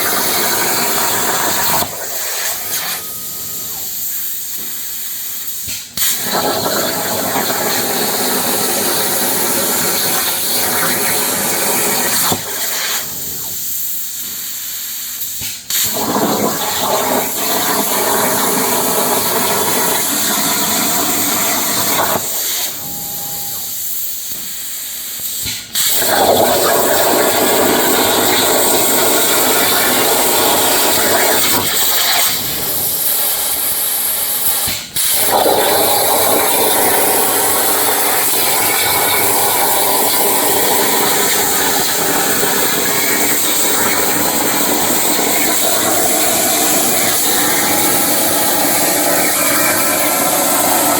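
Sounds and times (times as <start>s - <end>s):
plasma cutter hissing: 0.0s - 50.9s.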